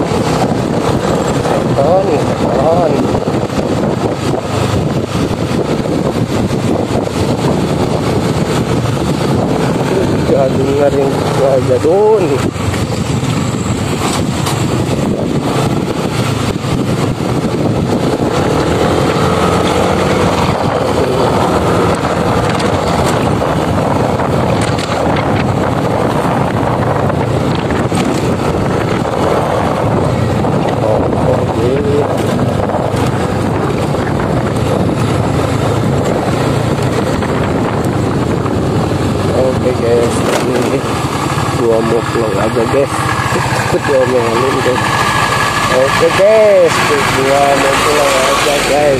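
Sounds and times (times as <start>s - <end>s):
motorcycle engine: 0.0s - 48.9s
wind noise on microphone: 0.0s - 48.9s.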